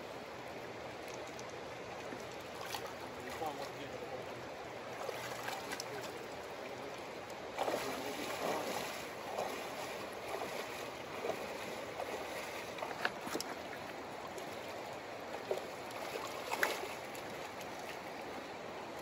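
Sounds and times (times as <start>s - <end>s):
river water flowing: 0.0s - 19.0s.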